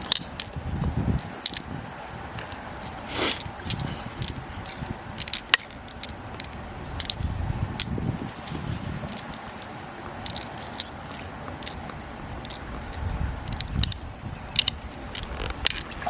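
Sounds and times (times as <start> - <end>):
shells clicking and scraping: 0.0 - 0.6, 1.2 - 15.9.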